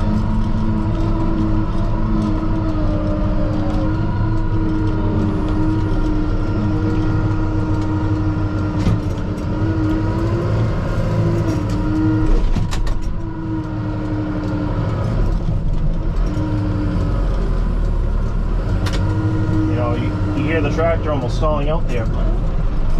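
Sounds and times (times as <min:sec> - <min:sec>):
tractor diesel engine lugging: 0:00.0 - 0:22.9.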